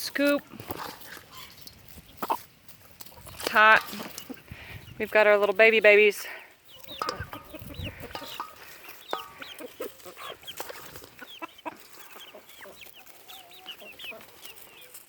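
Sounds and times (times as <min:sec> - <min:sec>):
hen clucking: 0:00.0 - 0:15.0
chicks peeping: 0:00.2 - 0:15.0.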